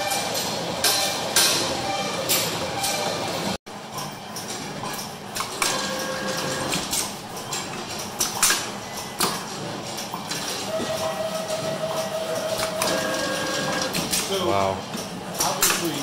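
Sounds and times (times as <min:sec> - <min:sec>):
machine whine: 0:00.0 - 0:14.6.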